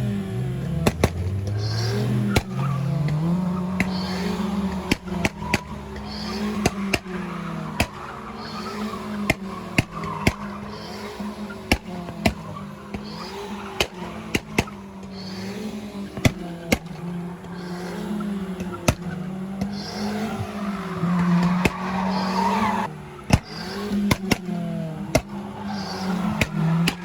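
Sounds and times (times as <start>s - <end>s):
car engine revving: 0.0s - 27.0s
sharp cracks: 0.8s - 27.0s
tyres squealing: 1.4s - 27.0s.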